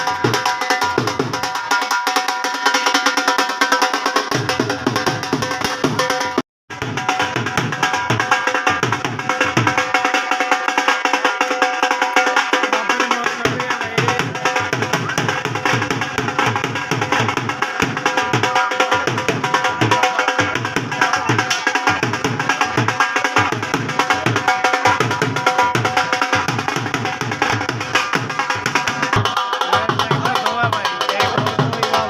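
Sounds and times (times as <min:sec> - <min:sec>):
dhol drumming: 0:00.0 - 0:32.0.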